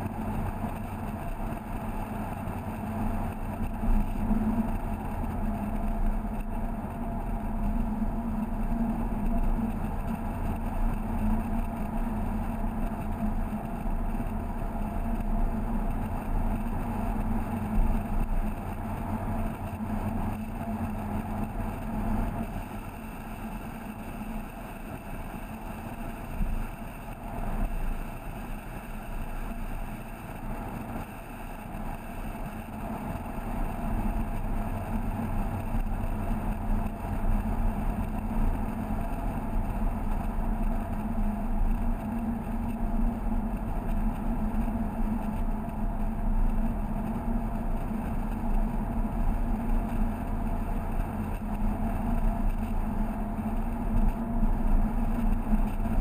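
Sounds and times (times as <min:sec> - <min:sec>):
car engine droning: 0:00.0 - 0:56.0
road and wind noise: 0:00.0 - 0:56.0.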